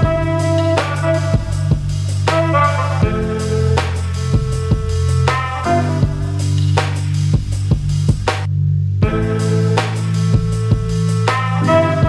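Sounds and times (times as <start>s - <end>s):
drum hits: 0.0s - 12.0s
held bass line: 0.0s - 12.0s.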